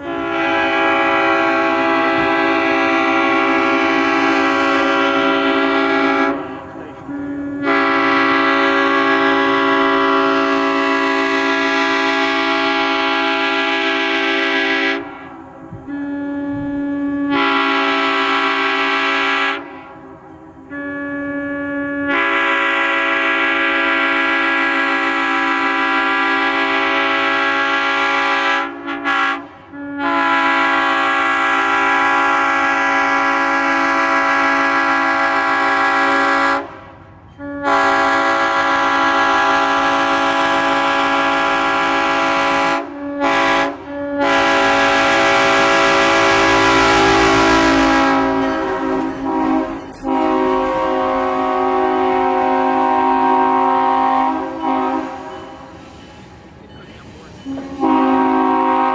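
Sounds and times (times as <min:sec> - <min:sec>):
locomotive air horn blasts: 0:00.0 - 0:56.0, 0:57.5 - 0:58.9.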